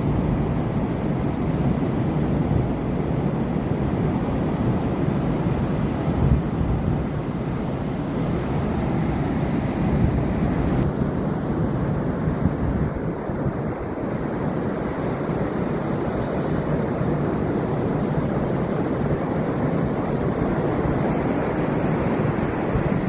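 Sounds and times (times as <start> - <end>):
ocean surf rushing on beach: 0.0 - 23.0
wind buffeting microphone: 0.0 - 23.0.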